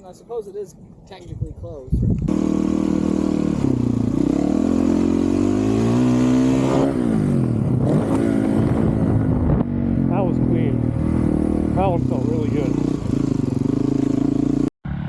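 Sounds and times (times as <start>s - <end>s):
dirt bike engine revving: 2.3s - 15.0s.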